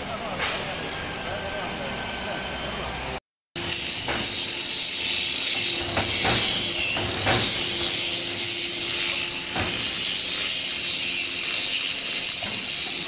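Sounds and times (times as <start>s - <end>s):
machine hiss and hum: 0.1s - 13.0s.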